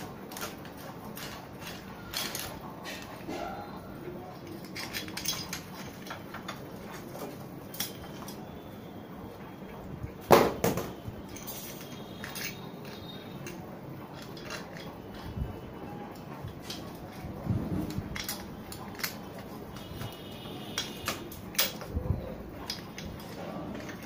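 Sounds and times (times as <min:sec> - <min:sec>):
metal parts clinking and knocking: 0:00.0 - 0:03.2, 0:04.4 - 0:08.5, 0:10.7 - 0:24.0.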